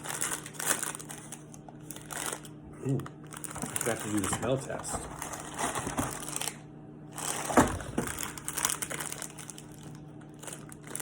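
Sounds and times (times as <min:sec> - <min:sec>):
snack wrapper crinkling: 0:00.0 - 0:06.6, 0:07.2 - 0:11.0.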